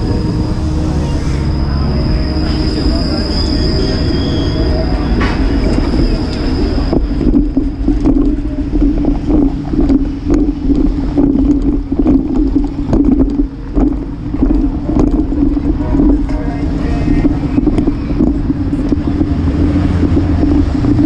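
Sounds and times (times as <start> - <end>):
bicycle rattling over tracks: 0.0 - 21.0
streetcar wheel squeal: 0.0 - 21.0
wind buffeting microphone: 0.0 - 21.0.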